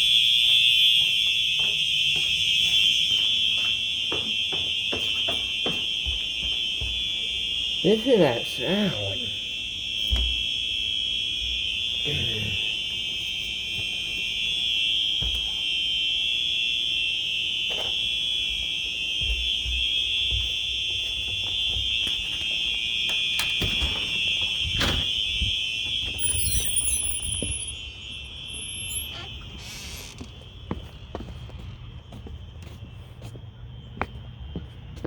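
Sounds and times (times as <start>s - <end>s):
fire alarm horns: 0.0s - 35.0s.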